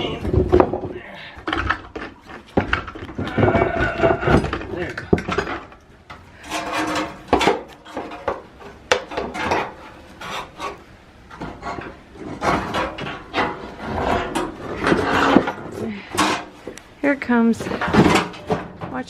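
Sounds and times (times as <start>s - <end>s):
scraping against wood: 0.2s - 16.8s.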